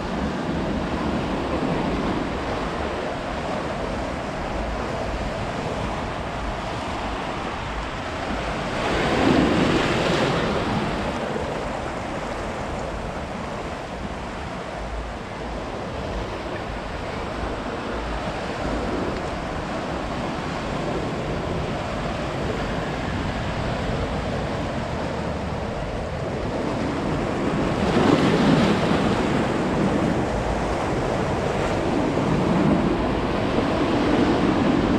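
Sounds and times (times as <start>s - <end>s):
ocean surf washing onto beach: 0.0s - 34.9s
wave breaking: 0.0s - 34.9s
wind rumbling on microphone: 0.0s - 34.9s.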